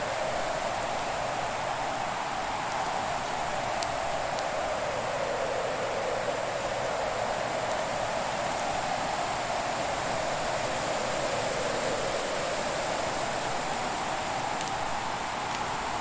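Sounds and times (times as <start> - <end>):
faint fire crackles: 0.0 - 16.0.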